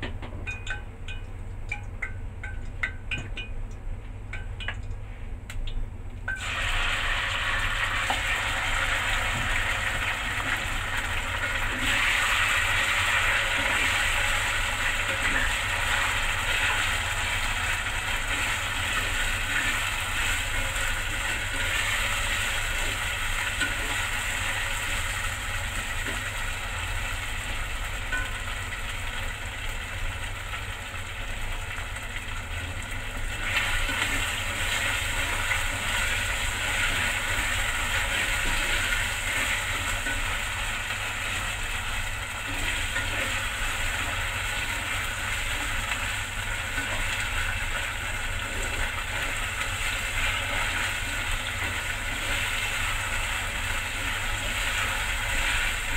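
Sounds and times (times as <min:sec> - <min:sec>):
meat sizzling in hot oil: 0:06.3 - 0:55.9.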